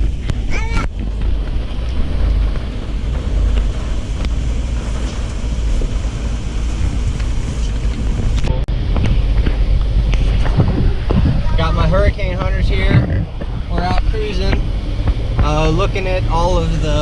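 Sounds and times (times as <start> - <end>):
vehicle driving through floodwater: 0.0 - 17.0
wind buffeting microphone: 0.0 - 17.0.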